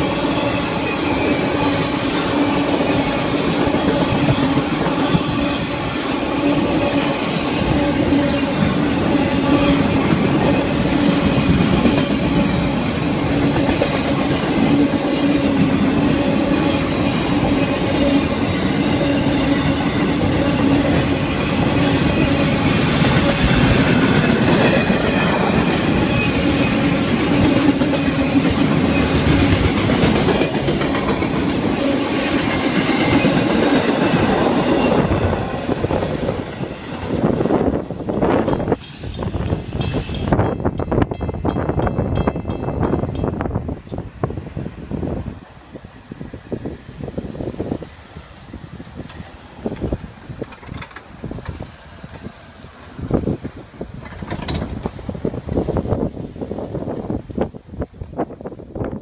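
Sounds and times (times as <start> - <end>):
clickety-clack over rail joints: 0.0 - 44.2, 48.5 - 56.1
train wheels rumbling on rails: 0.0 - 59.0.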